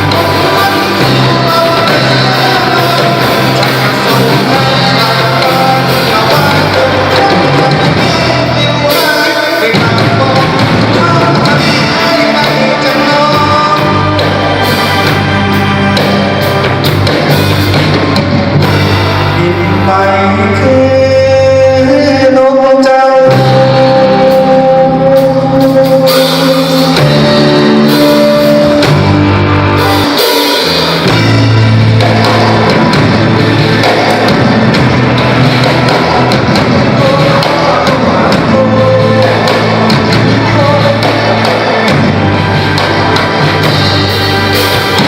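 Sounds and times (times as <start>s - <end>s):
person singing: 0.0s - 17.8s, 18.6s - 45.0s
rock band playing: 0.0s - 45.0s.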